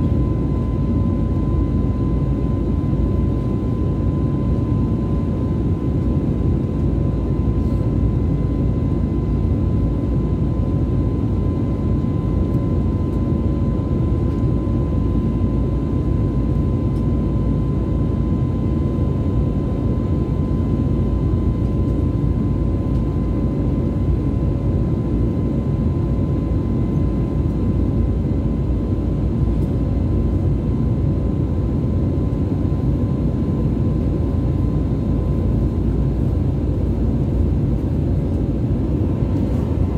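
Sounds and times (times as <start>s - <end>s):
jet engine roar in cabin: 0.0s - 39.9s
thin steady whine: 0.0s - 39.9s.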